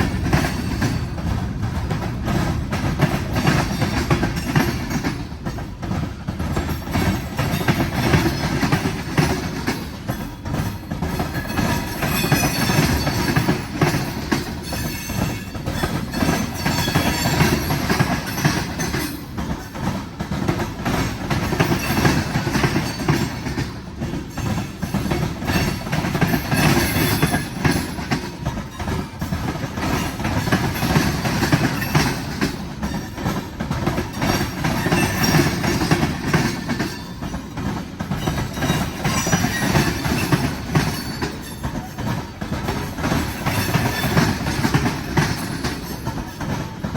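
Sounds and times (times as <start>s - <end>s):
train wheels rumbling on rails: 0.0s - 46.9s
wheels clacking over rail joints: 0.0s - 46.9s.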